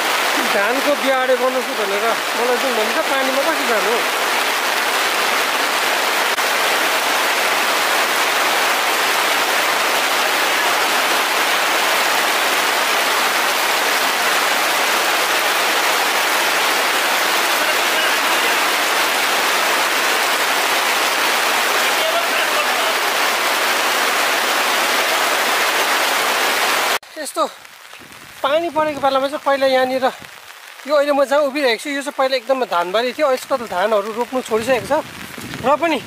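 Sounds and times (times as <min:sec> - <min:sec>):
heavy rain on a tarpaulin: 0:00.0 - 0:36.0.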